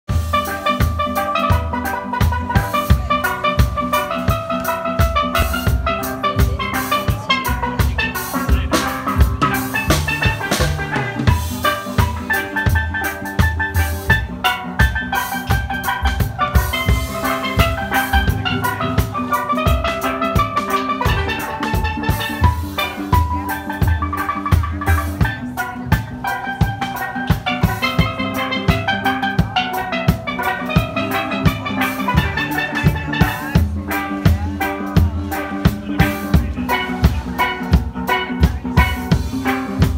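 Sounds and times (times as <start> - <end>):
drum kit beat: 0.0 - 39.9
steel pans playing melody: 0.1 - 39.9.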